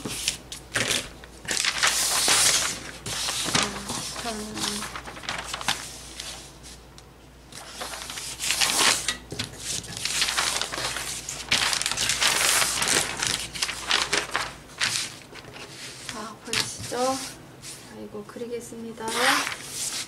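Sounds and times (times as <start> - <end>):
paper rustling and crinkling: 0.0 - 6.8, 7.5 - 17.9, 19.0 - 20.0.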